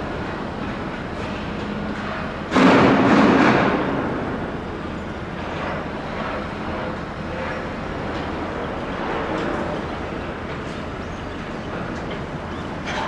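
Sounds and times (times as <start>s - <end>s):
steady mechanical rumble: 0.0s - 13.0s.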